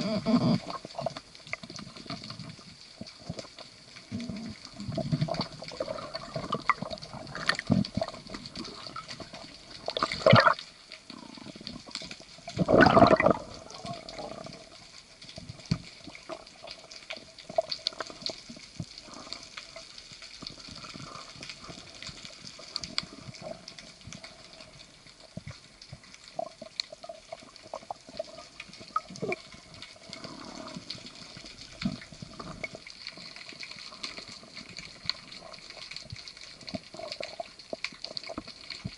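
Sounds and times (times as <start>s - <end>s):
underwater clicks and ticks: 0.0s - 38.9s.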